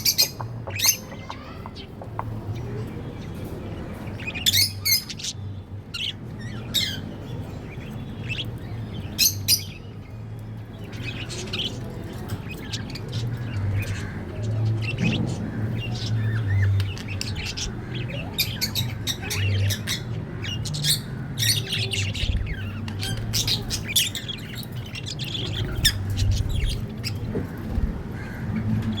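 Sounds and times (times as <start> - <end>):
budgerigars chirping and squawking: 0.0 - 29.0.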